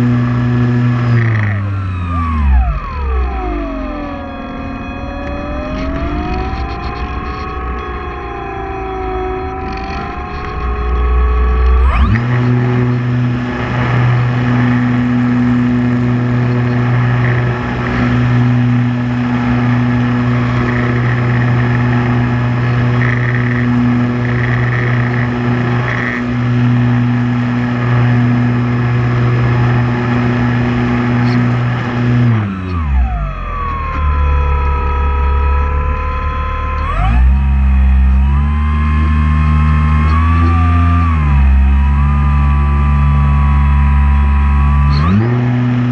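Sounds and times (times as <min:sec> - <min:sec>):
drone propellers humming: 0:00.0 - 0:45.9.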